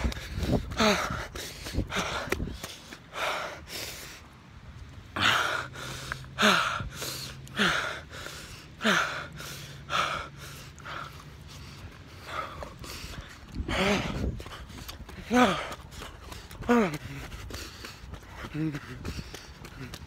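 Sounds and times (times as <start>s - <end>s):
person gasping for breath: 0.0s - 4.1s, 5.2s - 20.0s.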